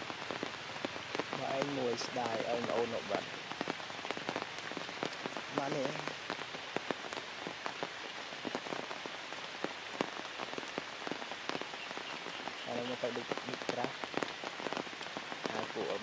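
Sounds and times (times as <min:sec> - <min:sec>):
rain falling on foliage: 0:00.0 - 0:16.0.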